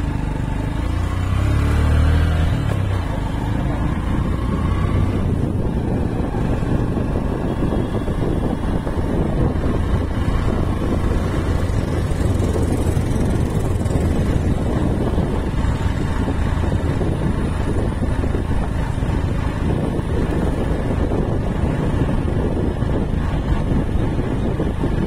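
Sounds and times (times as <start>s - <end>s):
vehicle running on road: 0.0s - 25.0s
wind noise on microphone: 0.0s - 25.0s.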